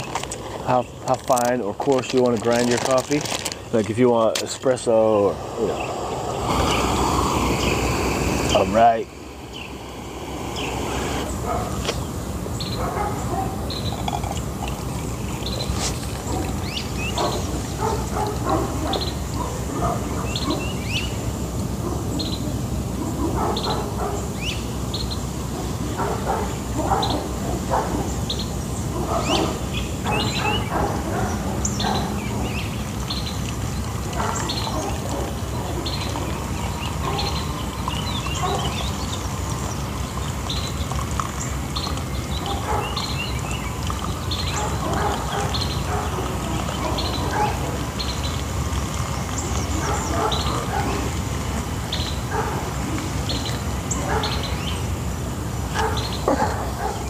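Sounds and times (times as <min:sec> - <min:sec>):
birds calling and chirping: 0:00.0 - 0:57.0.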